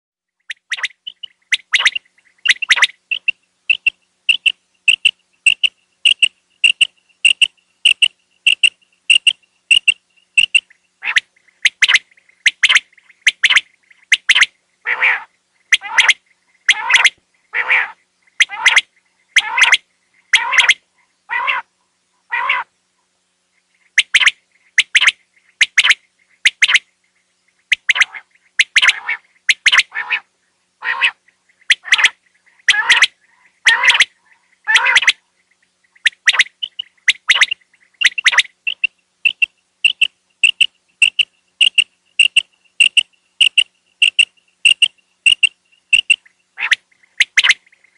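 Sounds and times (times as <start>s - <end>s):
quail calling: 0.4s - 22.7s, 27.5s - 47.9s.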